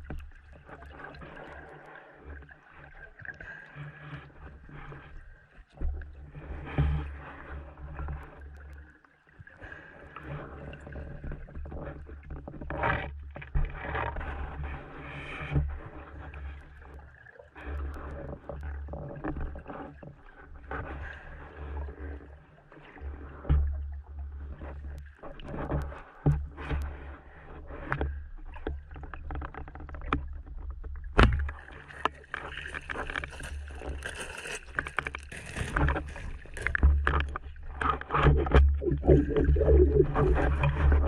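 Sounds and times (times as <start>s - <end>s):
underwater rumble of water: 0.0s - 41.0s.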